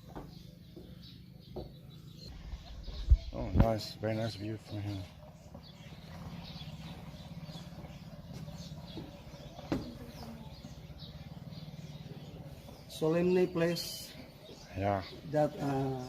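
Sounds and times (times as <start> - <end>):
small birds chirping: 0.0 - 16.0
steady low hum: 0.4 - 16.0.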